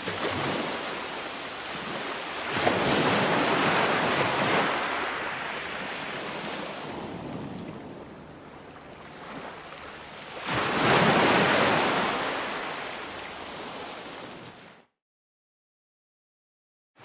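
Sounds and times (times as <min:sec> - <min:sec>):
ocean waves breaking on shore: 0:00.0 - 0:14.9.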